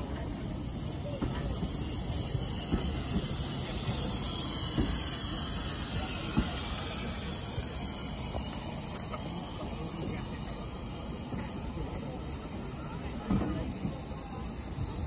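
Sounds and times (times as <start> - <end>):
steady high hiss: 0.0 - 15.0
train wheels rumbling on rail: 0.0 - 15.0.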